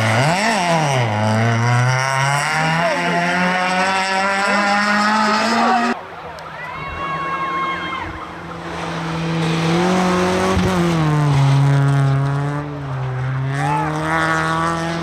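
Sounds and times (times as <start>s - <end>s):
rally car engine revving: 0.0s - 6.0s, 7.2s - 15.0s.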